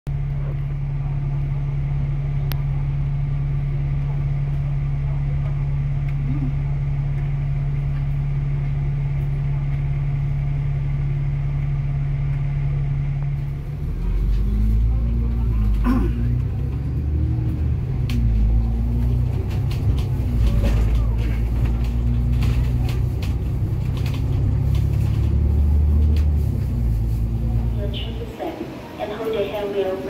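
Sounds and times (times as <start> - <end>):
vehicle engine idling: 0.1 - 30.0.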